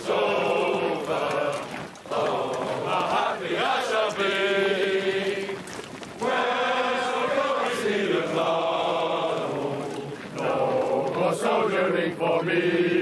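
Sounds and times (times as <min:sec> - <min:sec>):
group singing: 0:00.0 - 0:05.6, 0:06.2 - 0:13.0.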